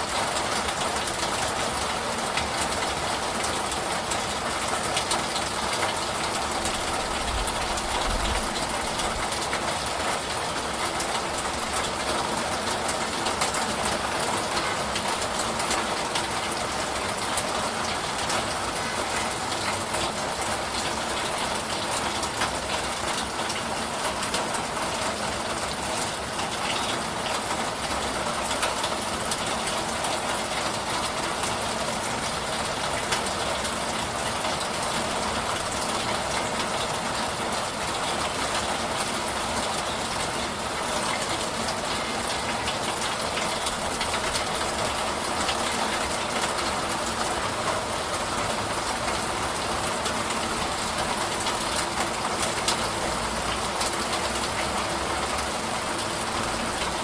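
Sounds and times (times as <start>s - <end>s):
steady rain shower: 0.0s - 57.0s.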